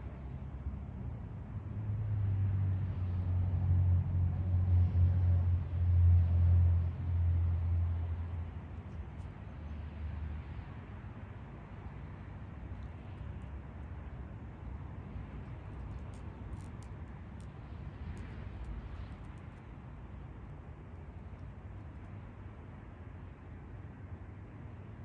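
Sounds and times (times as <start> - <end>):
passing vehicle engine rumble: 0.0 - 25.0.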